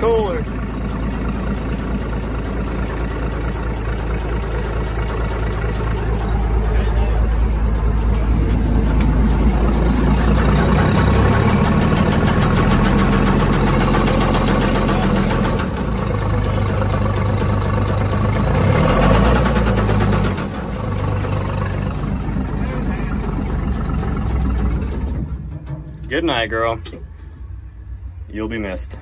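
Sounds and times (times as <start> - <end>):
diesel engine knocking: 0.0 - 27.2.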